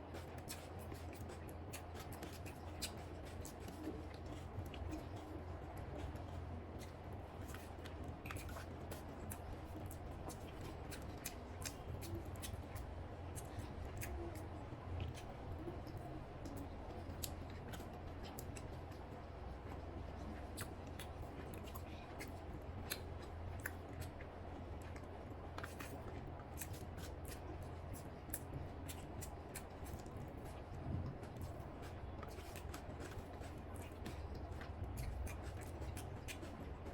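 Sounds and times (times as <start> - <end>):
person chewing food: 0.0 - 36.9
steady low hum: 0.0 - 36.9.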